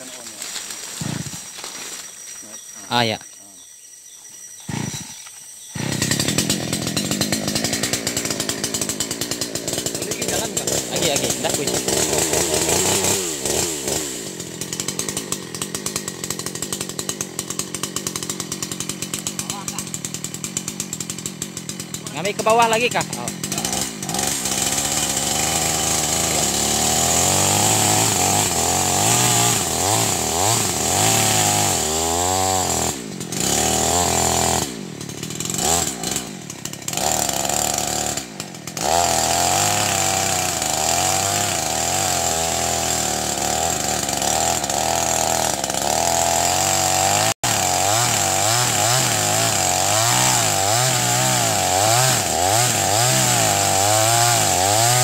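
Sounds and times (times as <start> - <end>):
chainsaw cutting wood: 0.0 - 3.0, 4.6 - 55.0.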